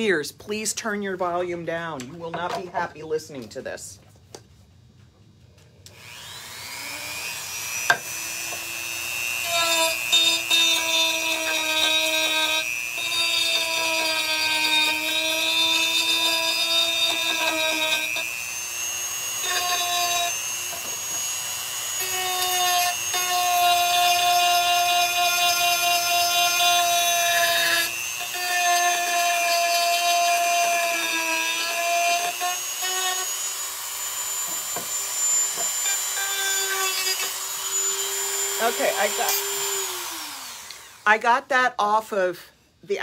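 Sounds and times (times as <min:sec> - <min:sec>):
rotary tool sanding wood: 0:06.0 - 0:41.0.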